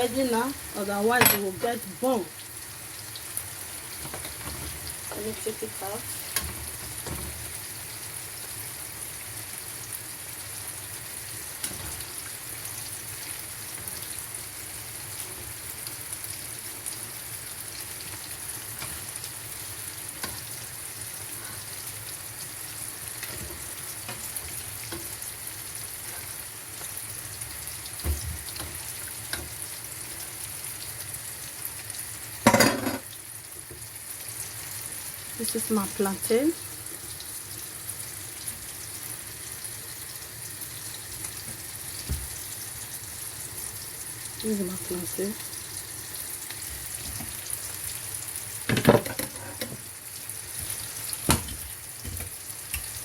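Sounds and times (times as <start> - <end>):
plantain sizzling in hot oil: 0.0 - 53.0.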